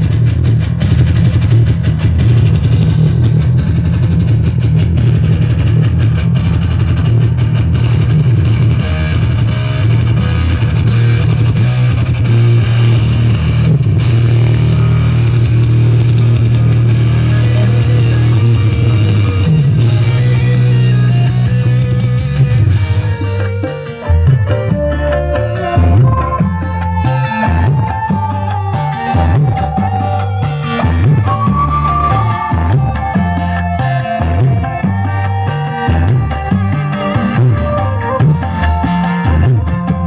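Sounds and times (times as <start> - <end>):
loud rock music: 0.0 - 40.0.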